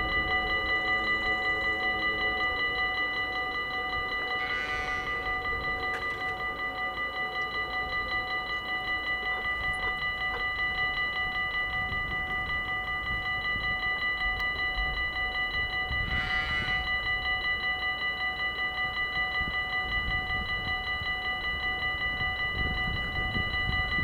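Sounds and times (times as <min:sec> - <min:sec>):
level crossing bell ringing: 0:00.0 - 0:24.0.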